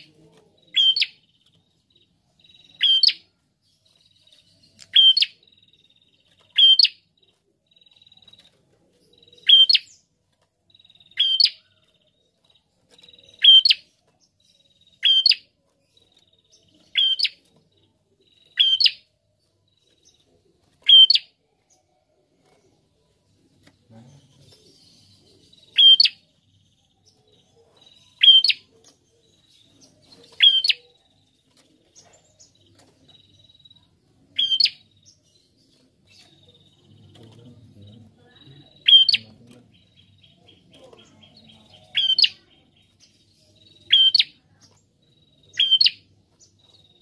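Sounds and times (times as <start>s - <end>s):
bird sharp chirping: 0.0s - 10.1s, 10.7s - 21.9s, 23.9s - 47.0s.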